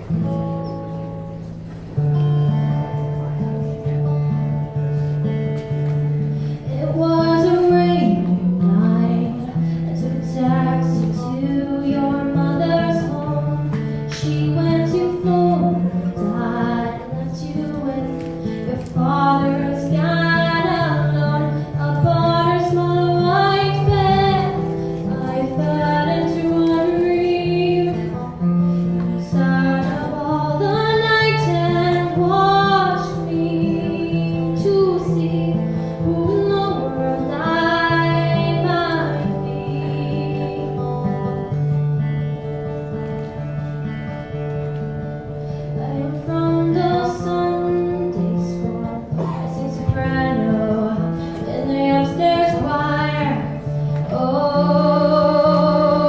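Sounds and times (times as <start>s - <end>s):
acoustic guitar: 0.0s - 56.0s
woman singing: 6.6s - 41.9s, 45.7s - 56.0s.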